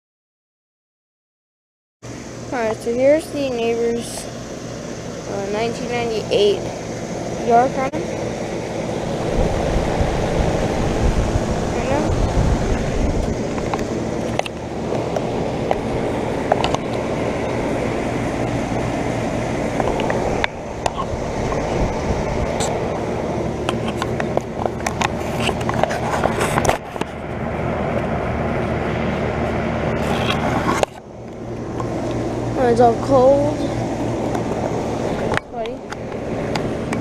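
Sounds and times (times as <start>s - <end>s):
compressor hum: 2.0s - 37.0s
condenser fan rushing: 2.0s - 37.0s.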